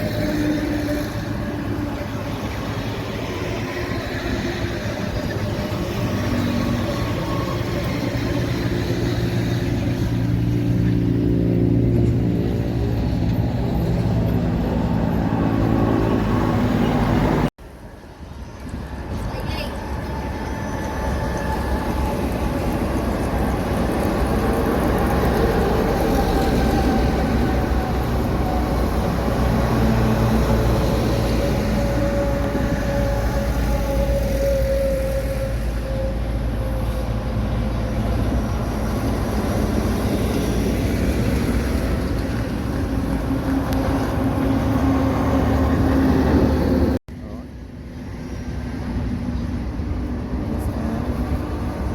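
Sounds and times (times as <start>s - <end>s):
heavy trucks rumbling past: 0.0s - 18.2s, 18.8s - 47.0s.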